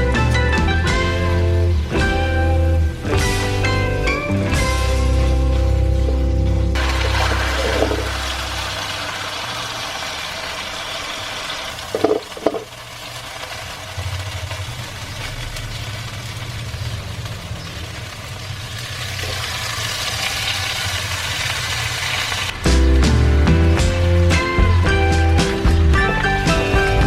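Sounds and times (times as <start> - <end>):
chicken sizzling in a pan: 1.0 - 24.6.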